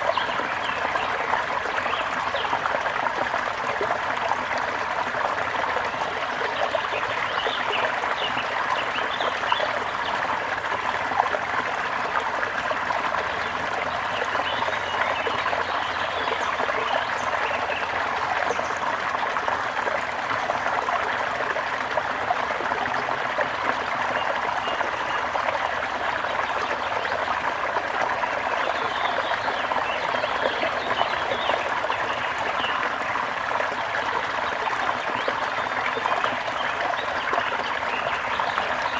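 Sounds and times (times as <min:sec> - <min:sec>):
brook trickling: 0:00.0 - 0:38.9.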